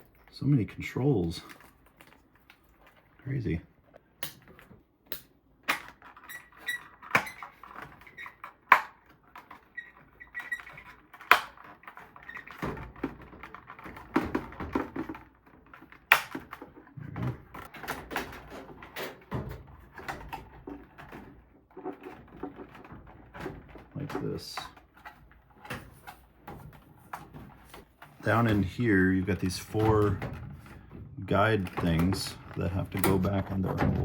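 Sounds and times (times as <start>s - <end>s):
plastic parts clicking and knocking: 0.0s - 34.0s
rustling: 0.0s - 34.0s.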